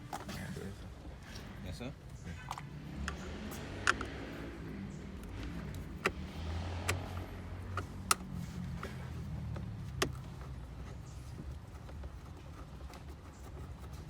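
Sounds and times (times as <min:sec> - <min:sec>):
sharp clicks and light knocks: 0:02.4 - 0:14.0.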